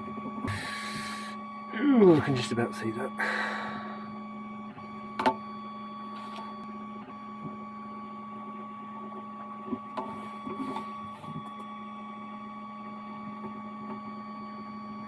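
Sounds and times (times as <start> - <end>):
motor hum with high whine: 0.0 - 15.0.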